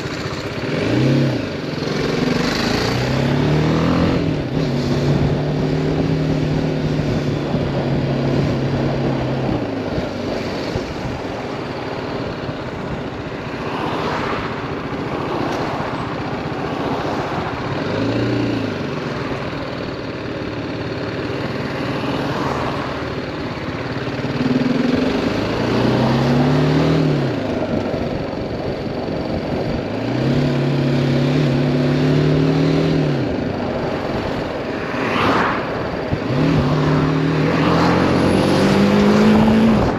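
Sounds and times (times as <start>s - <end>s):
motorcycle engine: 0.0s - 39.9s
wind and road rush: 0.0s - 39.9s.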